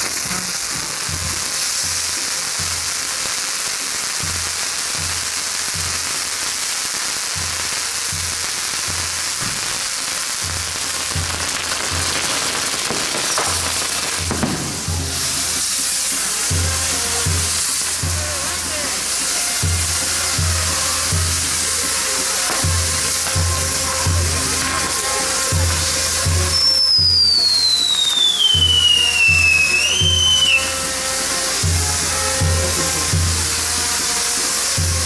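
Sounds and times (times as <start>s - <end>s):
fireworks hissing and crackling: 0.0s - 35.0s.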